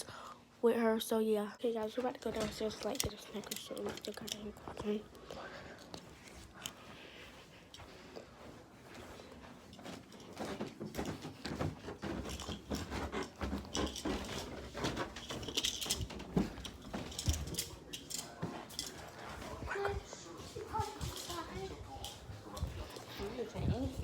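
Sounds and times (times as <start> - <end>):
footsteps going down stairs: 1.9 - 24.0.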